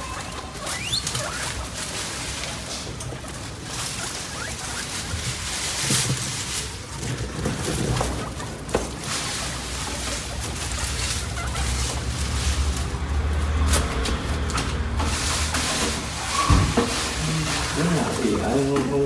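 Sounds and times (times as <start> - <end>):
animals rustling through dry straw: 0.0 - 19.0
sharp crackles: 0.0 - 19.0.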